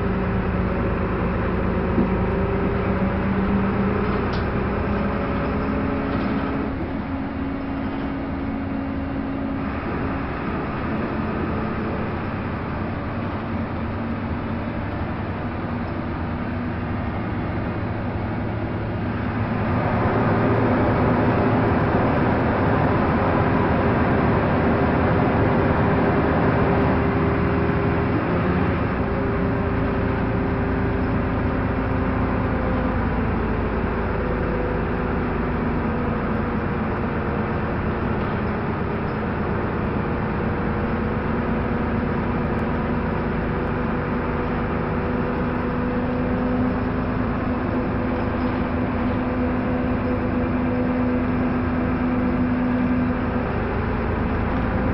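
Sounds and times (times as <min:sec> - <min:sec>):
bus engine: 0:00.0 - 0:54.9
road noise: 0:00.0 - 0:54.9.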